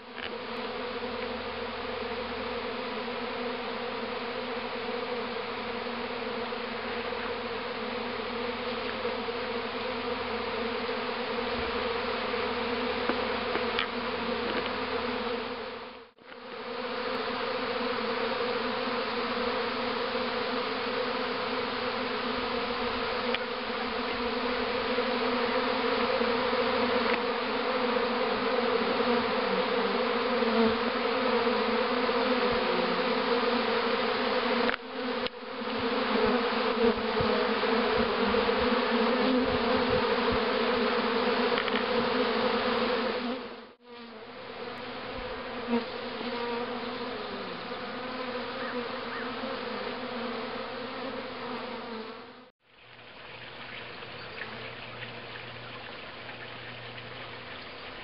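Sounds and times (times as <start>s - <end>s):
bee swarm buzzing: 0.0s - 58.0s.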